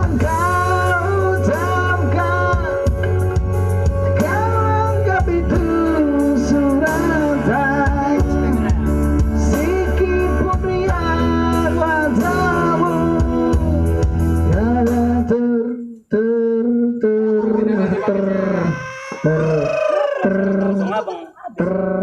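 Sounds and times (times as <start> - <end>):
man singing: 0.0 - 3.3, 4.1 - 22.0.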